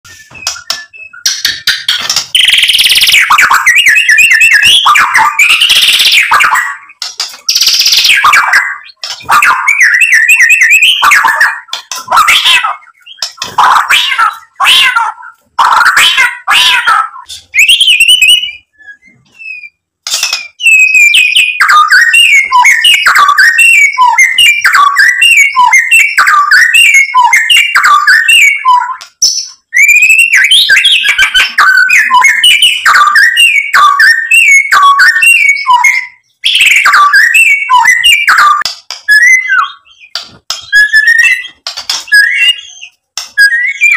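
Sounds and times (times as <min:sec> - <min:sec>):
bird singing whistled phrases: 0:00.1 - 0:16.2, 0:17.1 - 0:43.9.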